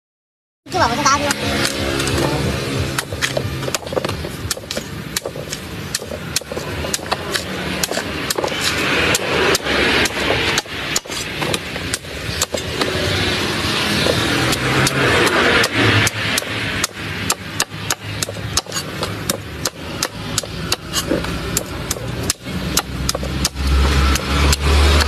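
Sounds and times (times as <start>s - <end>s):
cleaver chopping coconut on wood: 1.3s - 25.0s.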